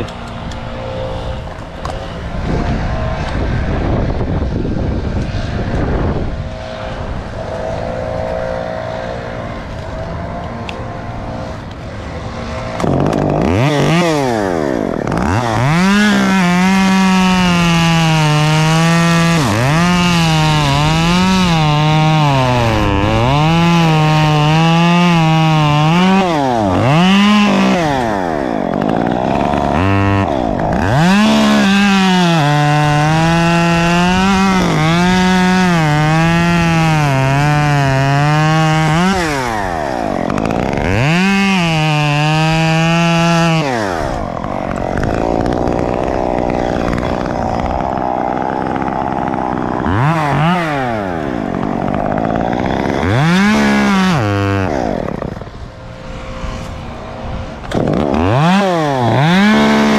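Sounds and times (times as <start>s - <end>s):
chainsaw cutting and revving: 0.0s - 59.9s.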